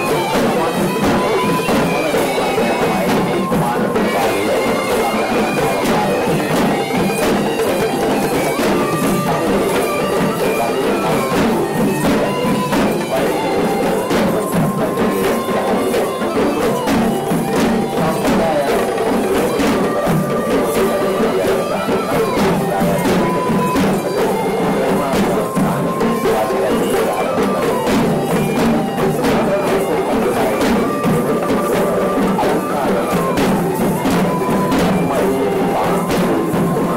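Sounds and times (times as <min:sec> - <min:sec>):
hand drums beating fast rhythm: 0:00.0 - 0:36.9
reed pipe wavering melody: 0:00.0 - 0:36.9.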